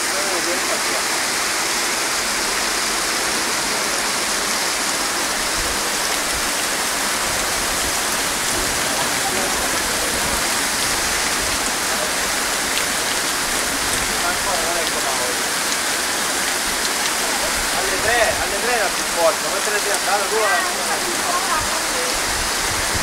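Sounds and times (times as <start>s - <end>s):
rain falling: 0.0s - 23.0s
water rushing along street: 0.0s - 23.0s.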